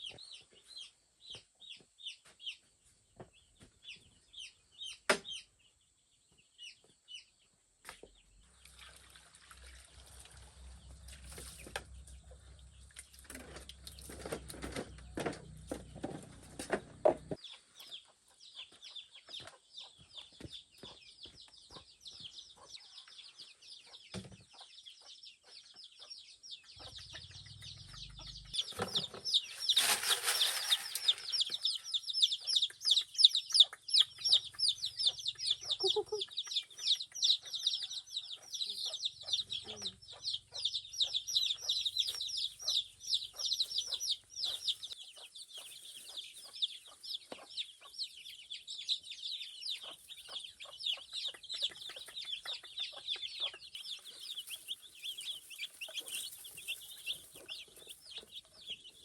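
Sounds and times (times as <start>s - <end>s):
chickens peeping and clucking: 9.6s - 59.0s.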